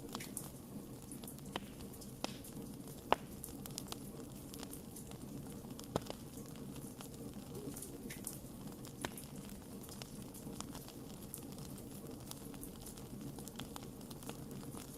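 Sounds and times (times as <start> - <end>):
campfire flame rushing: 0.0 - 14.9
fire popping and crackling: 0.0 - 14.9.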